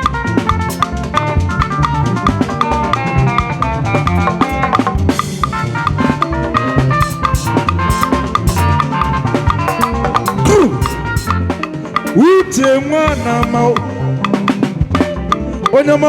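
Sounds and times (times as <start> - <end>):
drum kit beat: 0.0 - 15.8
live band playing: 0.0 - 16.0.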